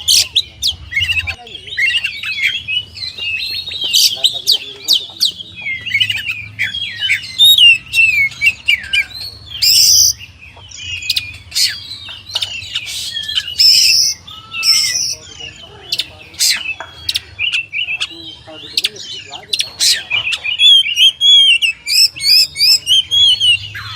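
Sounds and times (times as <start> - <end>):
bird singing whistled song: 0.0 - 23.9.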